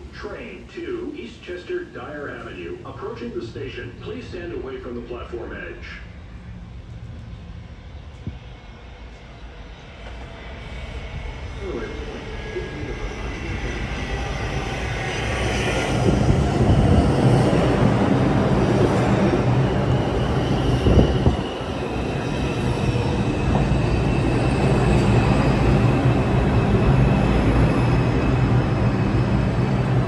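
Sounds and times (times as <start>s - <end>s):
train wheels rumbling on rails: 5.9s - 30.0s.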